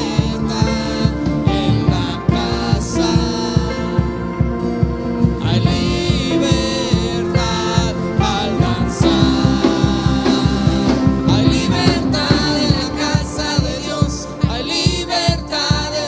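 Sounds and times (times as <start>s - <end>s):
live worship band playing: 0.0s - 16.0s
person singing: 0.0s - 16.0s
steady drum beat: 0.0s - 16.0s.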